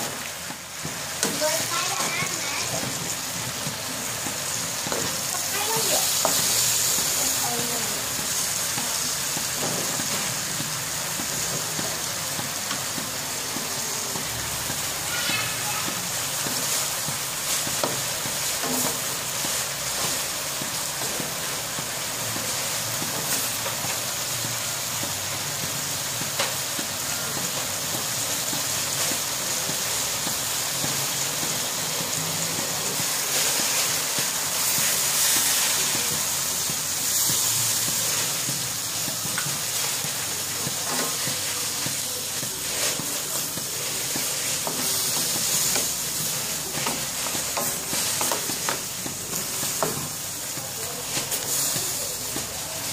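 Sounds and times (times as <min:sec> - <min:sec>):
food sizzling in wok: 0:00.0 - 0:52.9
wooden spatula stirring: 0:00.0 - 0:52.9.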